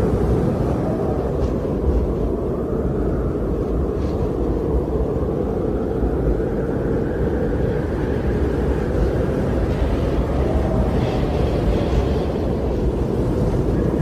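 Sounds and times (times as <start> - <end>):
strong wind blowing: 0.0 - 14.0.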